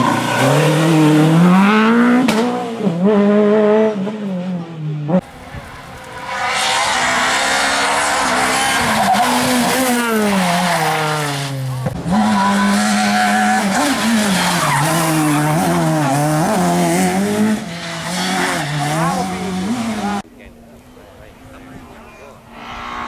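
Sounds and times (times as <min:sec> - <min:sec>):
rally car engine at high revs: 0:00.0 - 0:05.3, 0:06.1 - 0:20.2.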